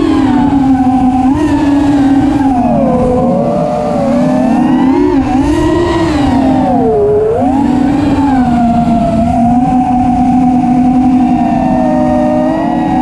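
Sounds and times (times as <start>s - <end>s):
quadcopter motors whining: 0.0s - 13.0s
wind rumble on microphone: 0.0s - 13.0s.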